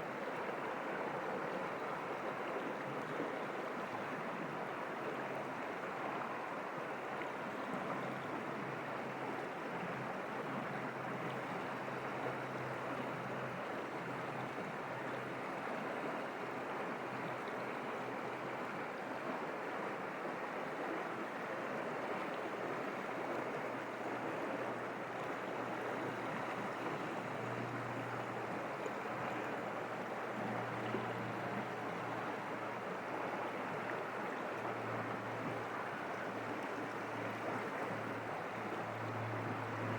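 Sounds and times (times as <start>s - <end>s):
stream flowing over rocks: 0.1s - 39.9s.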